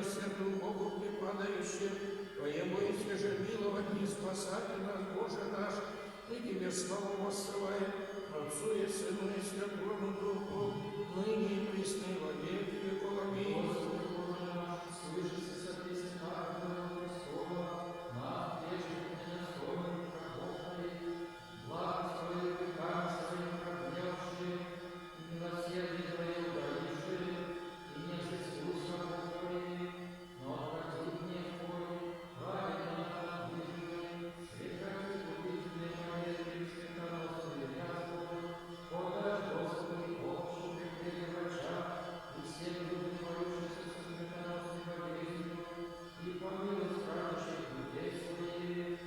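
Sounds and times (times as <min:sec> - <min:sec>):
slow sung chant: 0:00.0 - 0:49.0.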